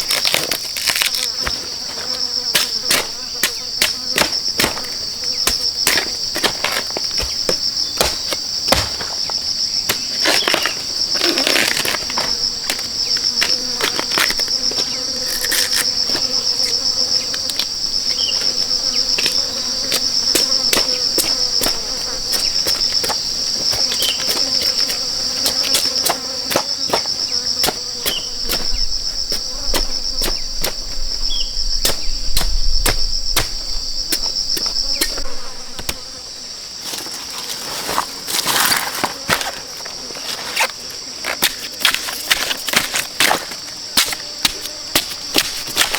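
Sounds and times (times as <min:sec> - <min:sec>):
buzzing insect chorus: 0:00.0 - 0:45.9.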